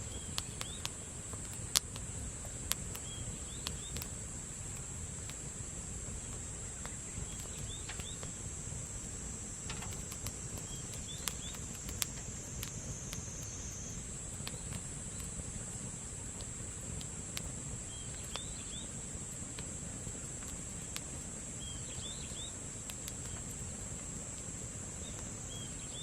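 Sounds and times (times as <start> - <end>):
campfire crackling: 0.0 - 26.0
sharp fire pops: 0.1 - 5.5, 6.2 - 18.8, 19.4 - 25.3.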